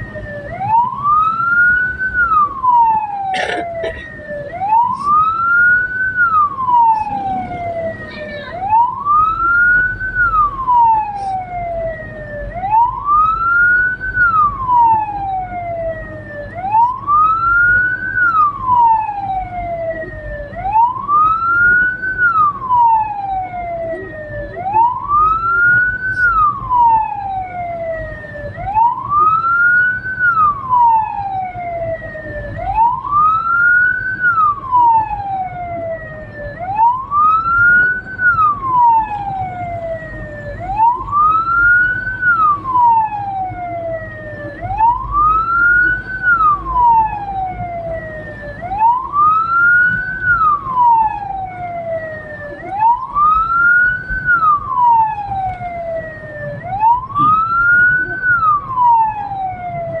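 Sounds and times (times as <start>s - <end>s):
siren wailing: 0.0s - 60.0s
vehicle and road noise: 0.0s - 60.0s.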